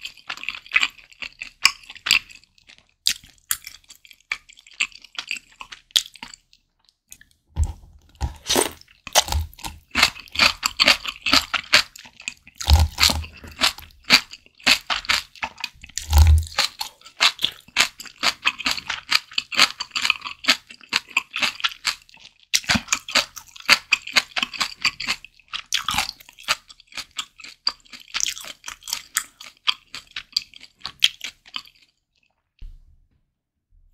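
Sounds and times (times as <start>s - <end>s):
close wet chewing: 0.0s - 32.4s.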